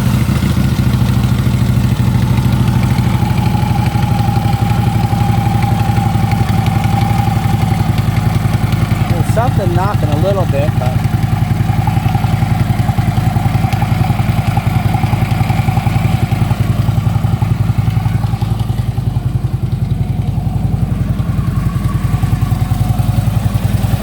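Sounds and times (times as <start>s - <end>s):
engine knocking: 0.0s - 24.0s
motorcycle engine idling: 0.0s - 24.0s.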